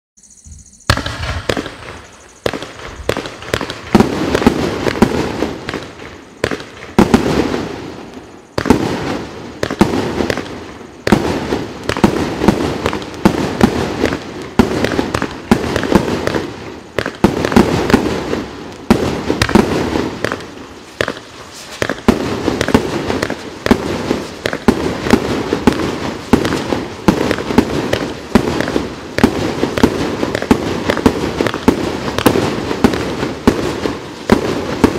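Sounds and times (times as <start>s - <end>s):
firework bangs: 0.5s - 34.9s
firework crackle: 0.8s - 34.9s.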